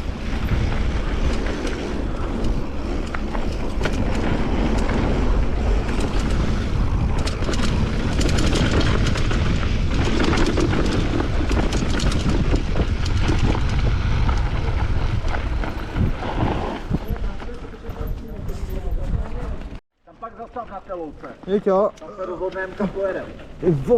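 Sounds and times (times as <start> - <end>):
wind buffeting microphone: 0.0 - 19.8
mountain bike clattering: 0.0 - 23.9.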